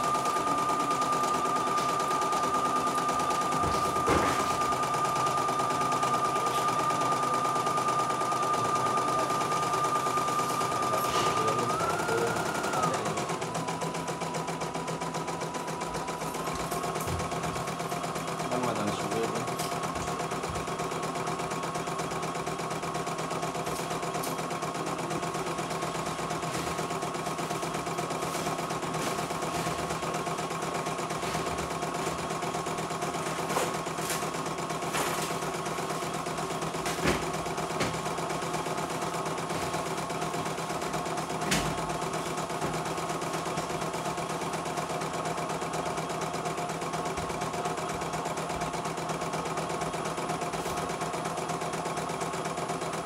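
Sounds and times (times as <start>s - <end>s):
embroidery machine stitching: 0.0s - 53.0s.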